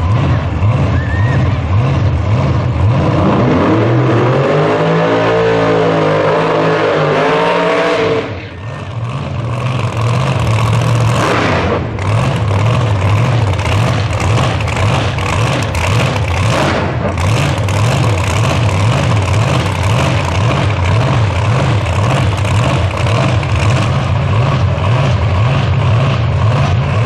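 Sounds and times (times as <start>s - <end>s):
lower lumpy engine note: 0.0s - 27.0s
racing car engine revving: 0.0s - 27.0s.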